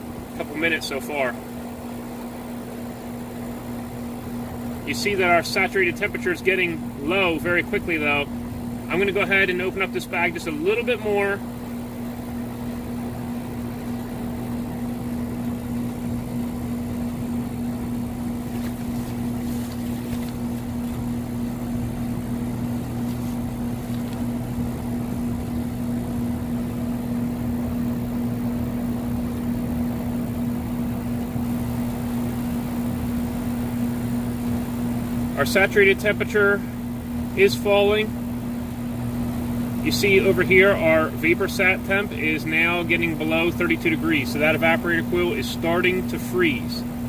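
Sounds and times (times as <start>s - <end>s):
compressor hum: 0.0s - 47.0s
condenser fan rushing: 0.0s - 47.0s.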